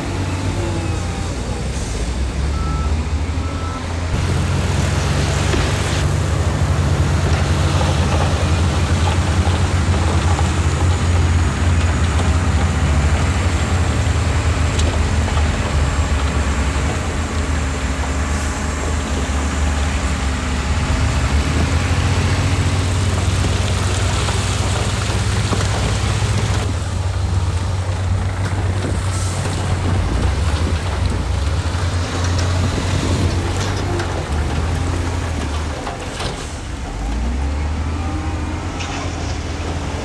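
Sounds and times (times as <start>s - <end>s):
heavy diesel engine droning: 0.0s - 40.0s.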